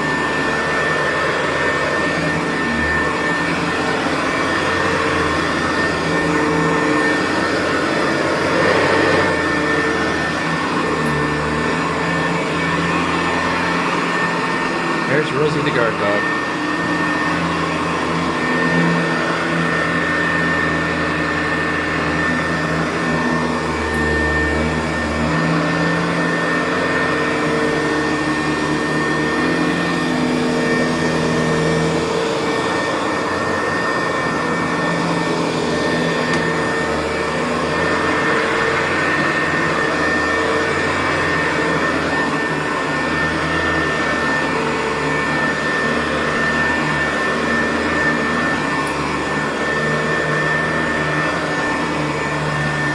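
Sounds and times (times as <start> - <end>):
upright vacuum cleaner on carpet: 0.0 - 52.9.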